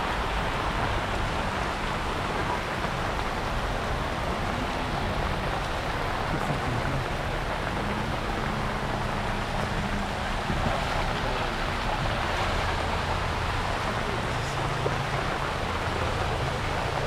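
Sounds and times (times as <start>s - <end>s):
heavy rain falling: 0.0s - 17.0s
low vehicle engine hum: 0.0s - 17.0s
runoff water rushing: 0.0s - 17.0s.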